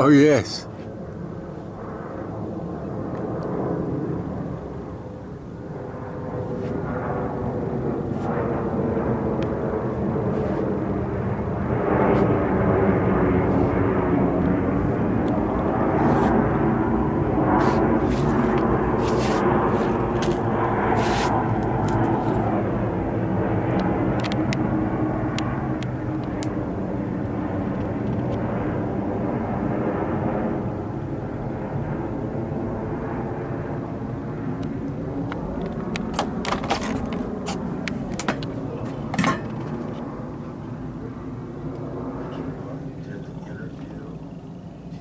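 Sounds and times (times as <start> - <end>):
jet roar passing overhead: 0.0 - 45.0.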